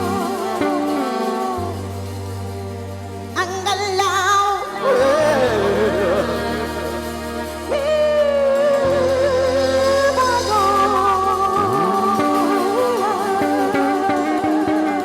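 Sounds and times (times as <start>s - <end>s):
person singing long notes: 0.0s - 2.7s, 3.6s - 15.0s
live band music: 0.0s - 15.0s.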